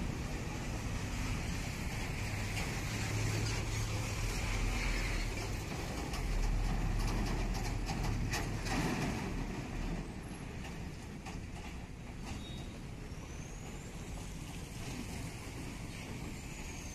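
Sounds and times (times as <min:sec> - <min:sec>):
diesel truck driving past: 0:00.0 - 0:16.9.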